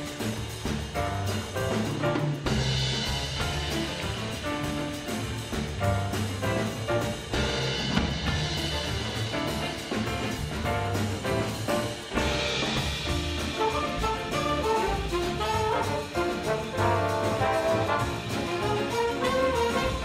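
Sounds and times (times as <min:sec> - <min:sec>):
big band playing swing jazz: 0:00.0 - 0:20.0.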